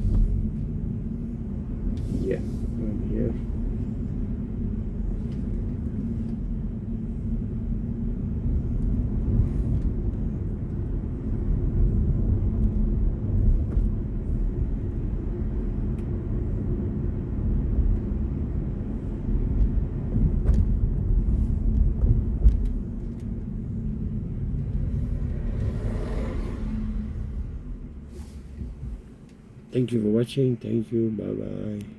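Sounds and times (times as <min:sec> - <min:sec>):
tyre and road noise rumble: 0:00.0 - 0:30.8.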